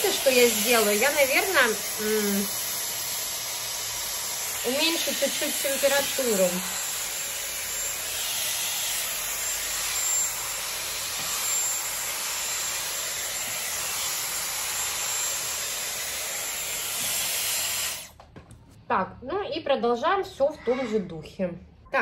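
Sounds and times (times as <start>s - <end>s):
hair styler blowing air: 0.0s - 18.2s.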